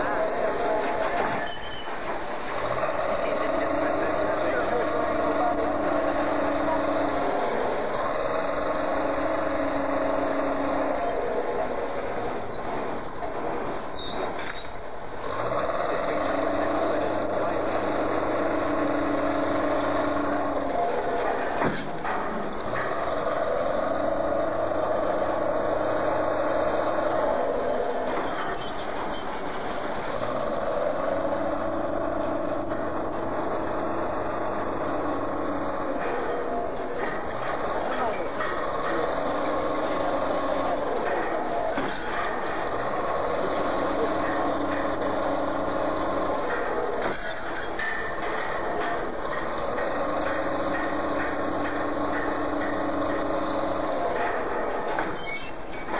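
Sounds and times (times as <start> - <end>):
demolition machinery engine drone: 0.0 - 55.9.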